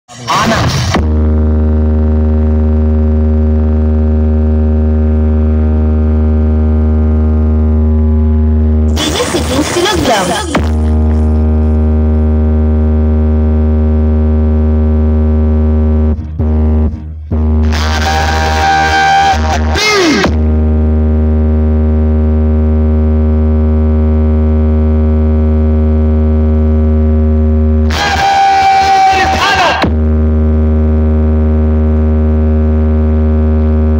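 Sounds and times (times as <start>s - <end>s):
speakers humming deep bass tone: 0.1s - 33.9s.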